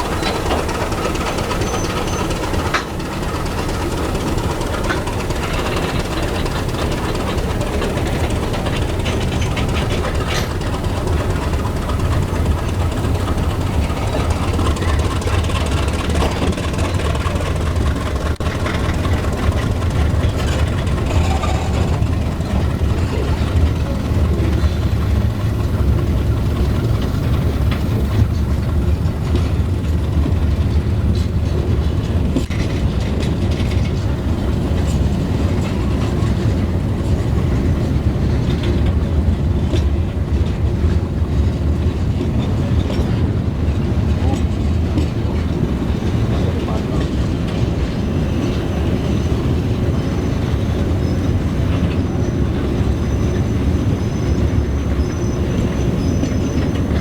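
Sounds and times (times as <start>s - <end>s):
train carriage rumble: 0.0s - 57.0s
wheel-on-rail noise: 0.0s - 57.0s.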